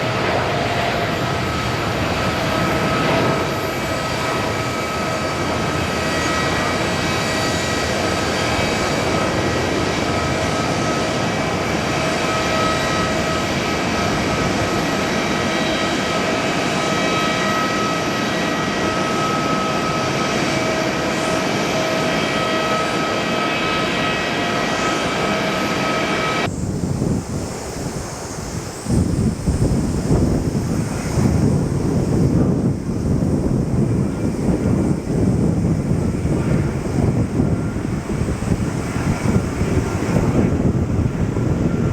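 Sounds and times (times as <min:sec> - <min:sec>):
jet engines whining: 0:00.0 - 0:41.9
wind buffeting microphone: 0:00.0 - 0:41.9.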